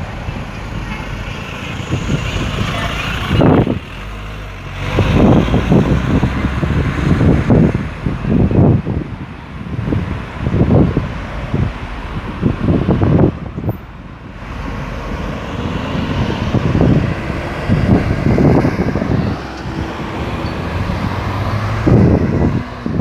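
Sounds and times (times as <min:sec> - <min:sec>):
vehicles passing: 0:00.0 - 0:23.0
wind buffeting microphone: 0:00.0 - 0:23.0.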